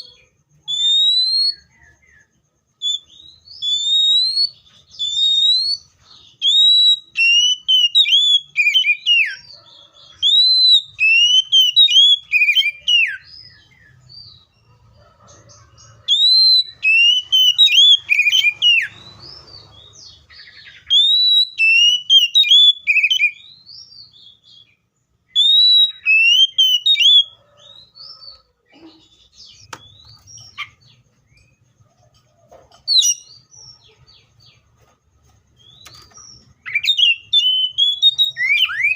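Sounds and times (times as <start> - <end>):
bird singing whistled notes: 0.0 - 14.6, 15.6 - 28.5, 29.1 - 31.7, 32.9 - 34.6, 35.6 - 38.9.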